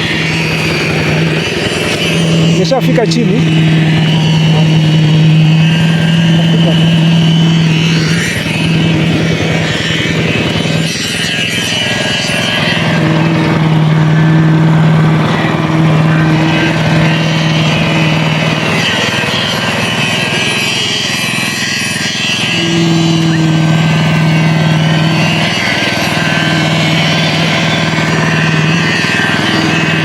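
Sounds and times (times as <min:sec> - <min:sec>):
small machinery engine running: 0:00.0 - 0:30.0.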